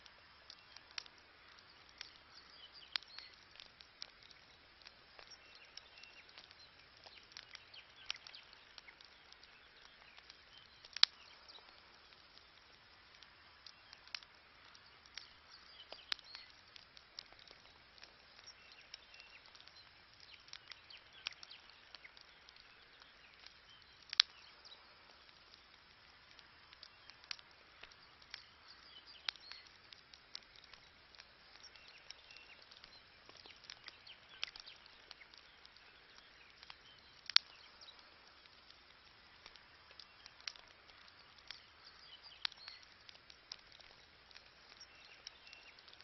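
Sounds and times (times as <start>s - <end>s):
campfire crackling: 0.0s - 46.0s
faint steady hiss: 0.0s - 46.0s
sharp pops and snaps: 0.0s - 46.0s.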